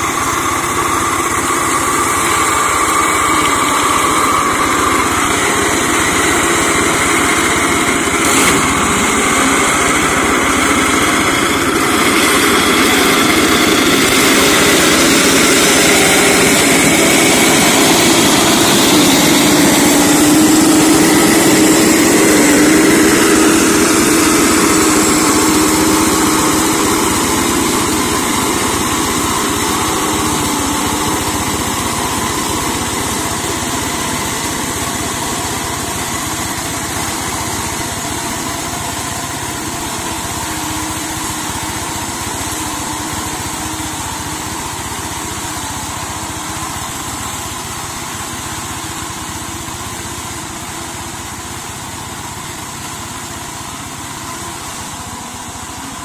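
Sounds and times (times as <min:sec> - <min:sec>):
mower cutting undergrowth: 0:00.0 - 0:48.8
diesel engine running: 0:00.0 - 0:56.0.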